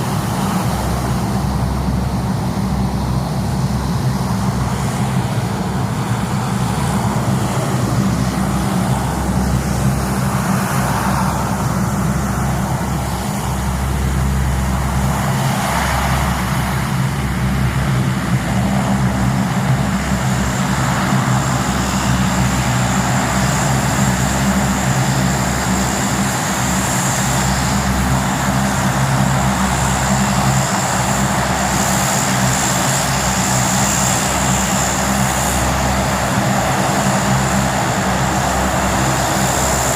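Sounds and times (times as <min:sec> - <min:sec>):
aircraft engine drone: 0:00.0 - 0:39.9
high engine whine: 0:00.0 - 0:39.9.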